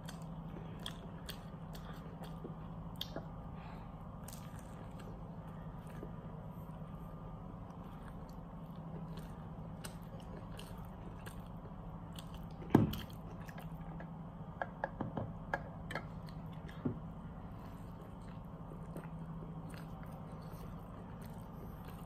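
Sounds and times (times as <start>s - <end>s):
person chewing food: 0.0s - 22.0s
steady low hum: 0.0s - 22.0s.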